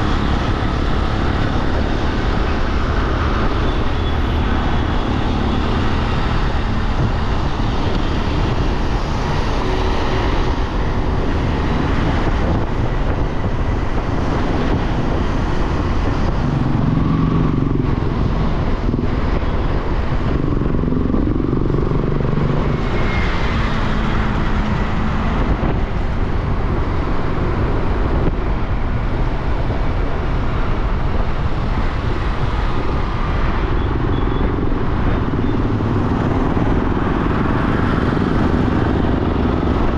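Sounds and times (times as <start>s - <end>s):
road noise: 0.0s - 39.9s
surrounding traffic engines: 0.0s - 39.9s.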